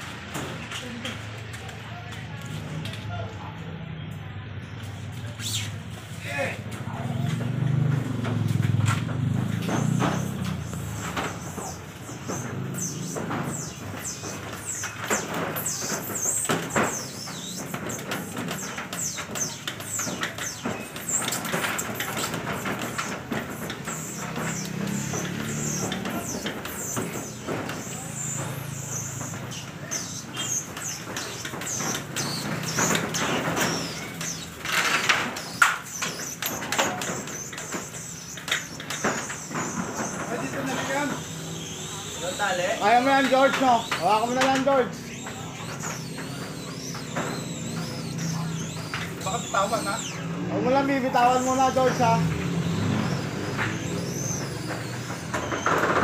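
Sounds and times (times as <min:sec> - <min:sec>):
small birds chirping: 0:04.2 - 0:56.0.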